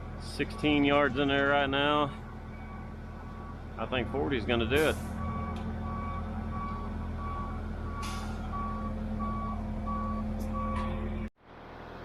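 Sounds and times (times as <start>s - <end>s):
diesel engine running: 0.0s - 12.0s
truck backup alarm beeping: 0.1s - 11.3s.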